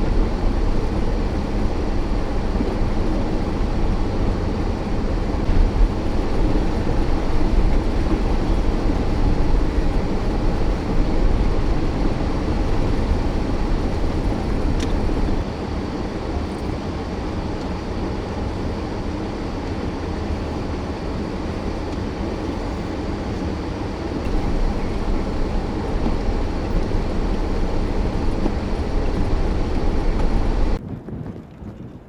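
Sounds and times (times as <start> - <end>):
storm wind roaring: 0.0 - 32.0.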